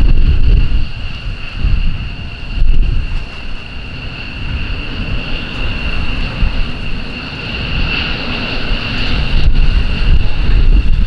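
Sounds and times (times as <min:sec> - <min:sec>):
jet engine whine: 0:00.0 - 0:11.0
wind noise on microphone: 0:00.0 - 0:11.0.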